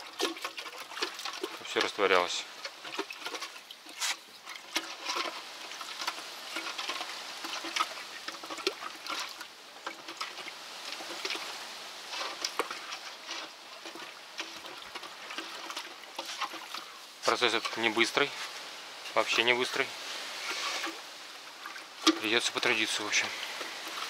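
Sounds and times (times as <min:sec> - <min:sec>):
liquid sloshing in bucket: 0:00.0 - 0:24.0.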